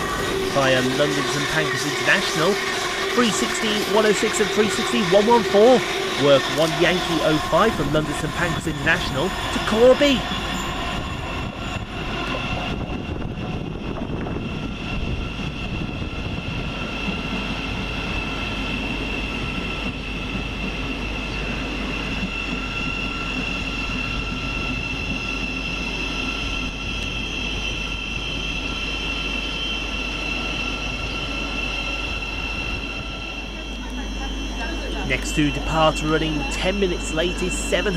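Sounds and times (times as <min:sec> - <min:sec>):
high electric whine: 0:00.0 - 0:16.7, 0:17.8 - 0:37.9
train rail rumble: 0:00.0 - 0:37.9.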